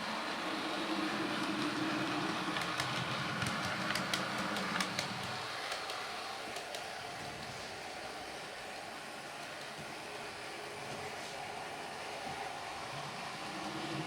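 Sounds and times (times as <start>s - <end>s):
model train wheel noise: 0.0s - 14.0s.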